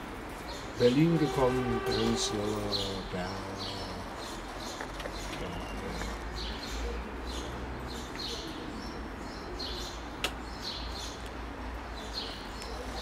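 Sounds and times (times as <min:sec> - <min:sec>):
street background noise: 0:00.0 - 0:13.0.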